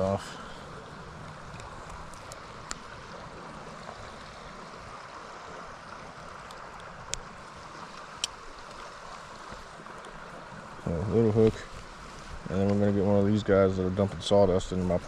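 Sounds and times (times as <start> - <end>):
stream water over rapids: 0.0 - 15.0.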